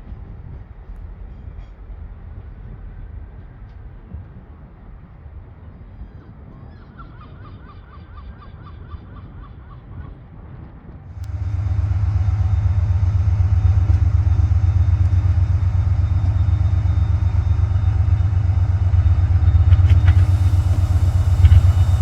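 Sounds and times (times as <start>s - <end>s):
diesel locomotive engine rumbling: 0.0s - 7.0s, 11.0s - 22.0s.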